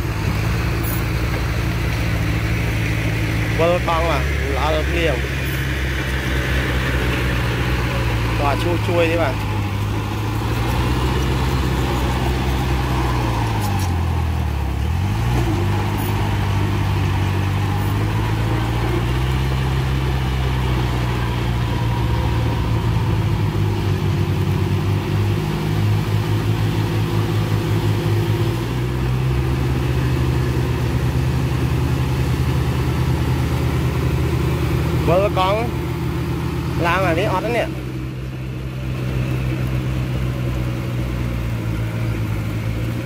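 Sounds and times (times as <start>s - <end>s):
heavy diesel engine under load: 0.0s - 43.0s.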